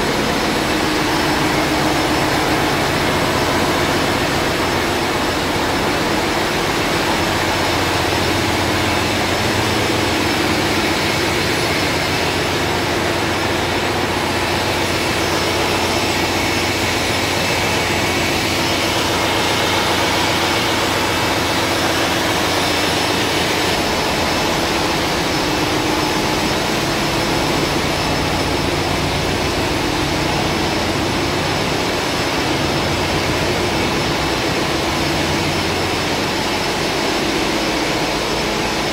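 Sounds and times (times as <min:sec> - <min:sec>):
engine-room machinery din: 0:00.0 - 0:38.9
low machinery hum: 0:00.0 - 0:38.9.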